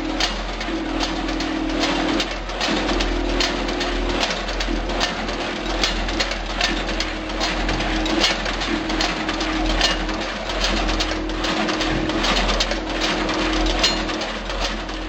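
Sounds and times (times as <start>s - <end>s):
mid-pitched machine buzz: 0.0s - 15.0s
steady low hum: 0.0s - 15.0s
sharp clicks and rattles: 0.1s - 15.0s.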